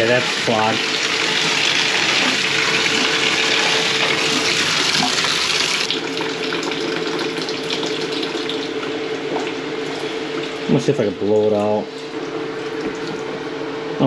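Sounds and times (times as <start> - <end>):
water hissing through fill valve: 0.0 - 13.3.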